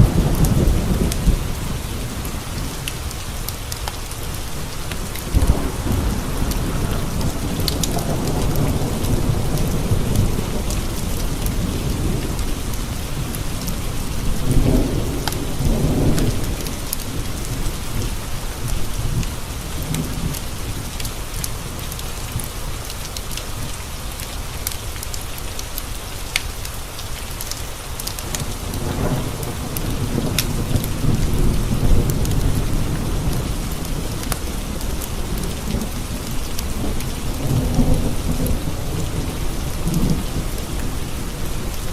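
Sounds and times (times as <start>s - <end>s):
thunder rumbling: 0.0s - 22.4s, 28.2s - 41.9s
steady rain: 0.0s - 41.9s.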